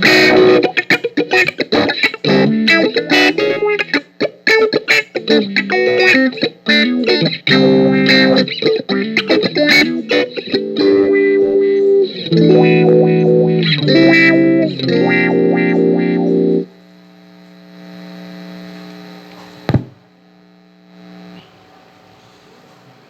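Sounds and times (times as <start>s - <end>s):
distorted electric guitar chords: 0.0s - 21.4s.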